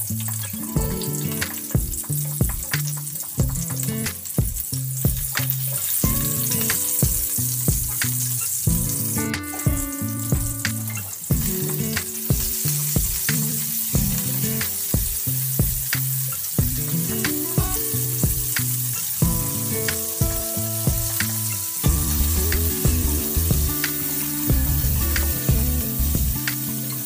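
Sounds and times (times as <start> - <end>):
background music with steady beat: 0.0 - 27.0
hot oil sizzling in a wok: 0.0 - 27.0.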